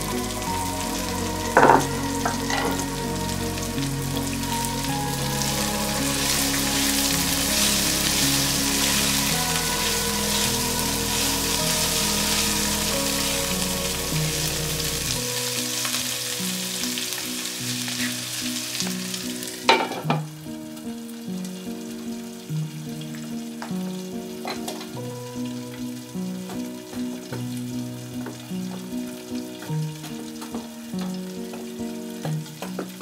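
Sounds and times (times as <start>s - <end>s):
soft background music: 0.0s - 33.0s
vegetables sizzling in oil: 0.0s - 33.0s.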